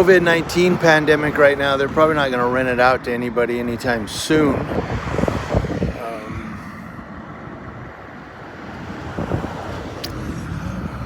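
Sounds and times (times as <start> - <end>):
road traffic passing: 0.0 - 11.0
wind rumbling on microphone: 0.0 - 11.0.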